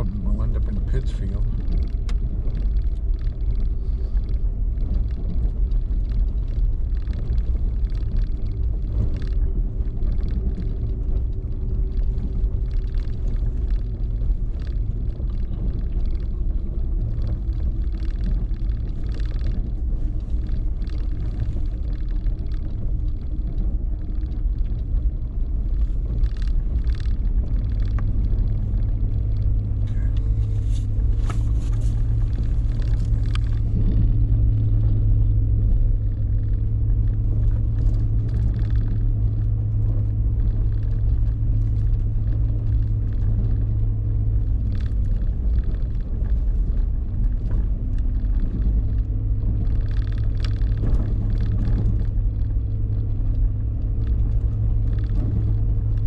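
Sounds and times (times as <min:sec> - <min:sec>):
deeper hum: 0:00.0 - 0:56.0
truck engine rumbling: 0:00.0 - 0:56.0.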